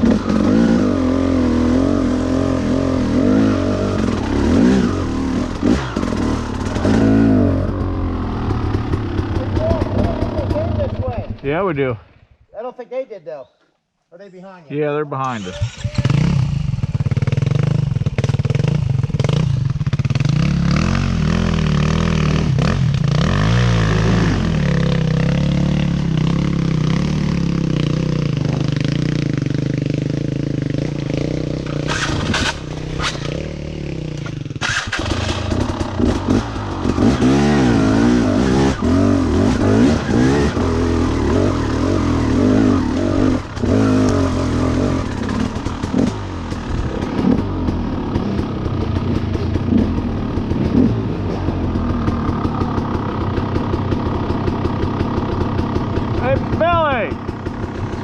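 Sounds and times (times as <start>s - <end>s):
two-stroke dirt bike engine revving: 0.0s - 11.6s, 15.2s - 58.0s.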